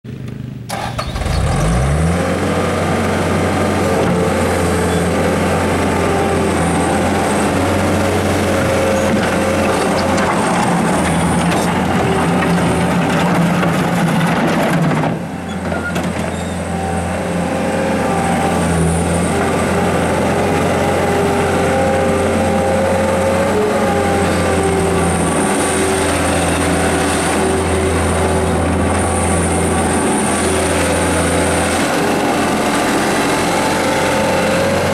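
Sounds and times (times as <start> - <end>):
skid steer loader engine running: 0.1 - 34.9.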